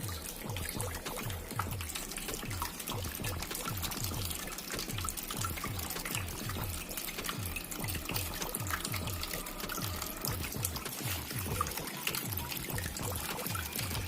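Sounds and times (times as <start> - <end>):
fountain water trickling: 0.0 - 14.0
music with bass beat: 0.0 - 14.0.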